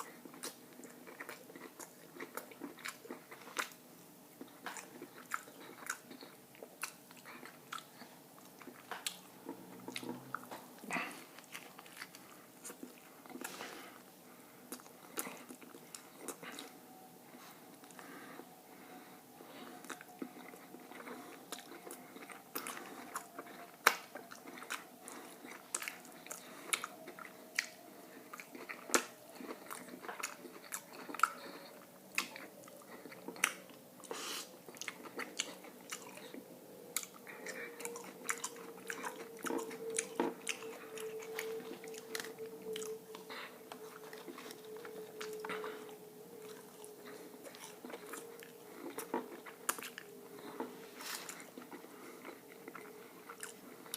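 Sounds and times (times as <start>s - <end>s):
chewing and biting: 0.0s - 14.0s, 14.6s - 16.8s, 19.0s - 53.9s
faint steady hum: 0.0s - 53.9s.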